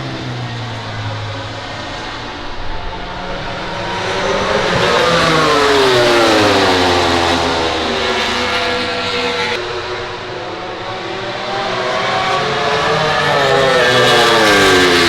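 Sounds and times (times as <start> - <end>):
racing motorcycle passing by: 0.0 - 15.0.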